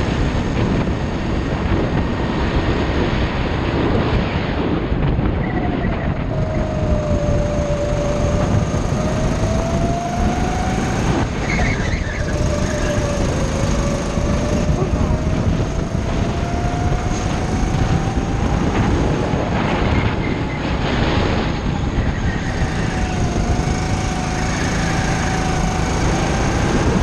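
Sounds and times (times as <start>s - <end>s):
go-kart engine rumbling: 0.0s - 27.0s
whine varying in pitch: 4.9s - 27.0s.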